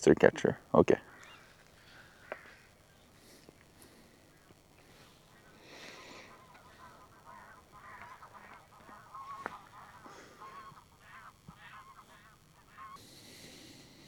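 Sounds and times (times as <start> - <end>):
waterbirds calling: 0.0 - 13.7.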